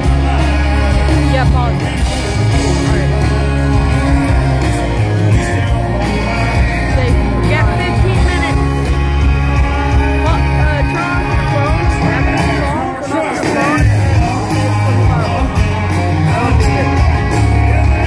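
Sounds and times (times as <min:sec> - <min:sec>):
lead vocal singing: 0:00.0 - 0:18.0
live band playing rock song: 0:00.0 - 0:18.0.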